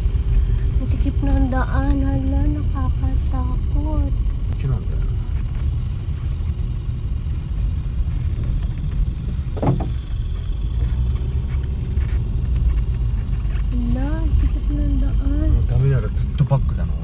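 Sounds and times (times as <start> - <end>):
car cabin rumble: 0.0 - 17.0.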